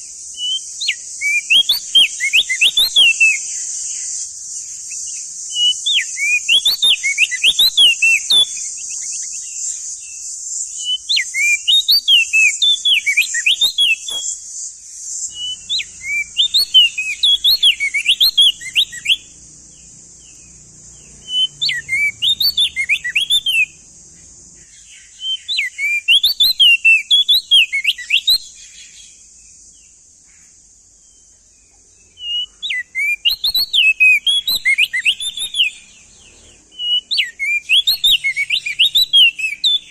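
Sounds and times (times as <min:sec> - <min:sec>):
bird singing whistled notes: 0:00.0 - 0:39.9
steady high hiss: 0:00.0 - 0:39.9.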